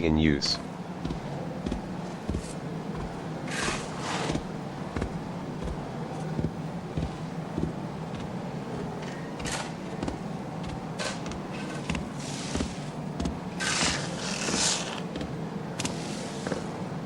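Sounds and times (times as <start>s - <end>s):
soil shovelling thuds and scrapes: 1.0s - 16.7s.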